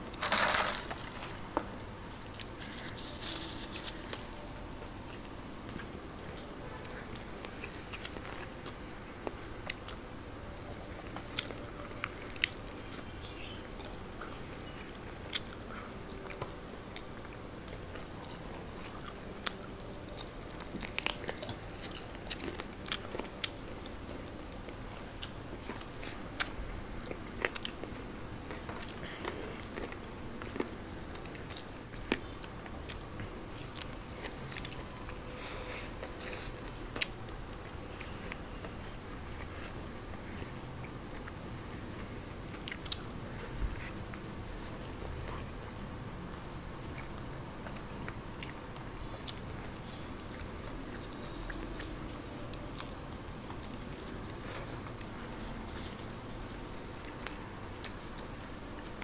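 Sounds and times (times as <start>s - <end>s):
people chewing fried chicken: 0.0s - 59.0s.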